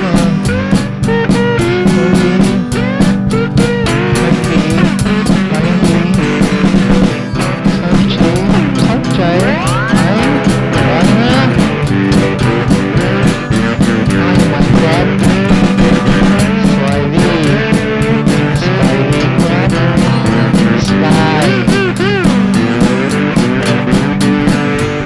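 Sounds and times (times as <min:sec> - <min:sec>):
indie pop music with guitar: 0:00.0 - 0:25.0.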